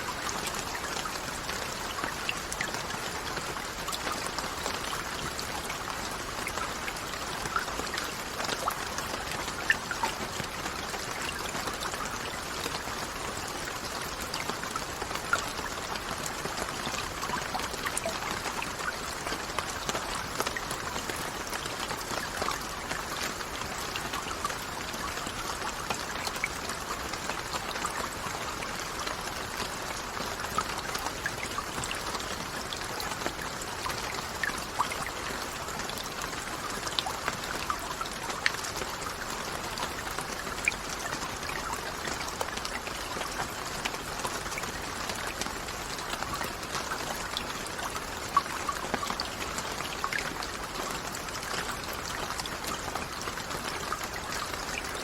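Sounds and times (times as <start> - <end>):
raindrops ticking: 0.0 - 55.0.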